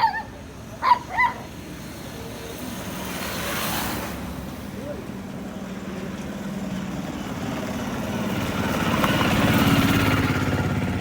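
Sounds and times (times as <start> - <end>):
vehicle engine pulsing drone: 0.0 - 11.0.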